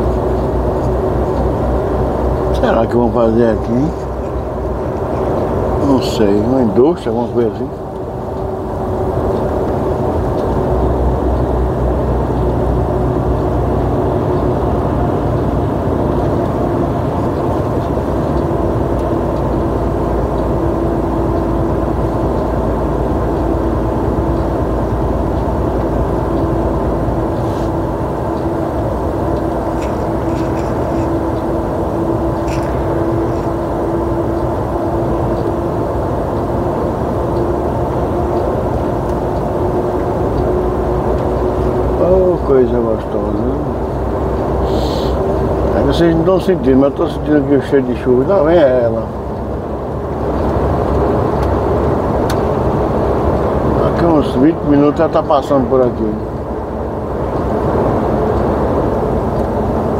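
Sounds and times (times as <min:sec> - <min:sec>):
truck engine and road noise: 0:00.0 - 0:59.9.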